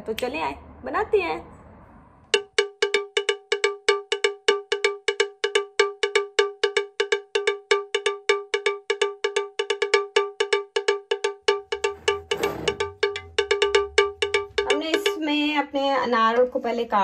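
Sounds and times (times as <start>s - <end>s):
looping bell-like percussion: 2.4s - 16.4s.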